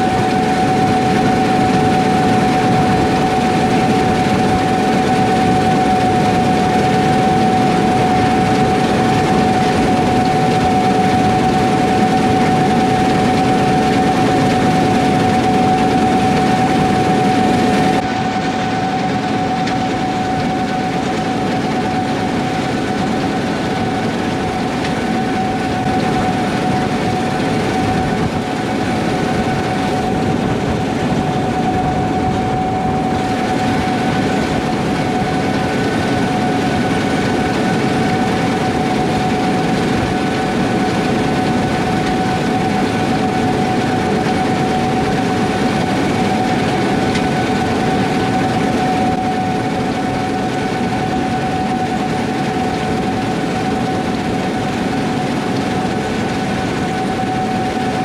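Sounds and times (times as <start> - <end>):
combine harvester running: 0.0 - 58.0
high whine: 0.0 - 58.0.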